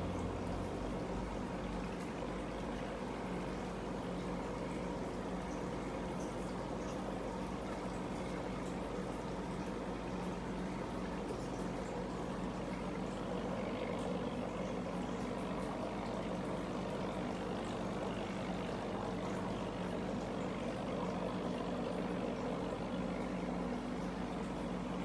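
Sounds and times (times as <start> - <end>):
filter bubbling: 0.0 - 25.0.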